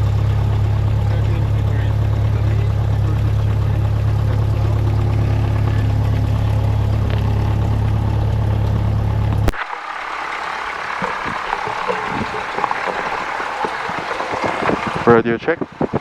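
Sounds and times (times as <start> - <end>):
aircraft engine idling: 0.0 - 16.0.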